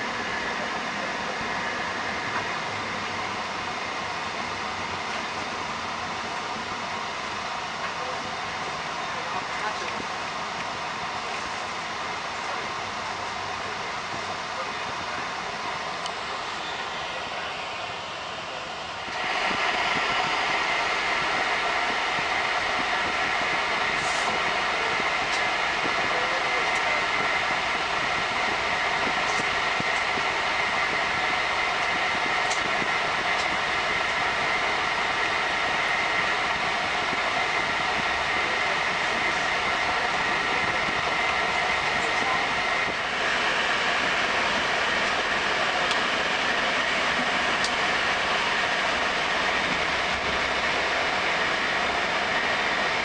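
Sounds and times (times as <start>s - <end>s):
faint steady whine: 0.0s - 53.0s
train carriage rumble and hiss: 0.0s - 53.0s.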